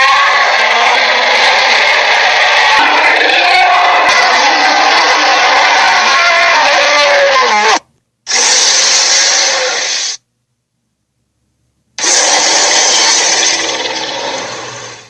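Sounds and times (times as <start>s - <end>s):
dinosaur roar: 0.0s - 10.1s, 12.0s - 15.0s.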